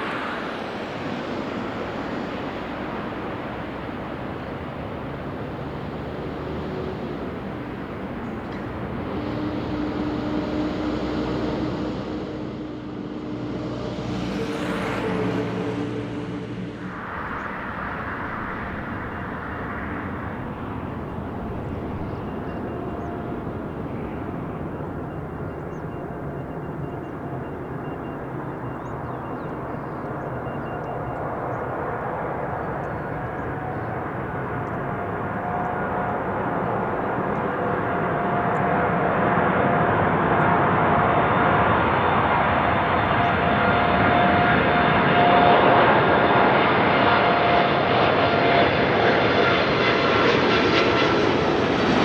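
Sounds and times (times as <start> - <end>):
jet engines rumbling and whining: 0.0 - 52.0.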